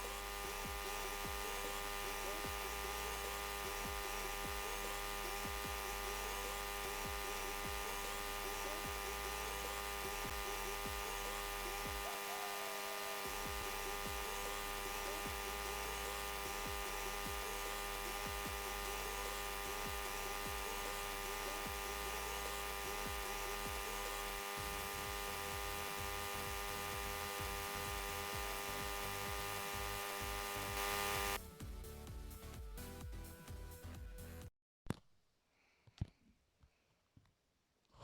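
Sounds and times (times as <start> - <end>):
buzzy electrical hum: 0.0 - 31.4.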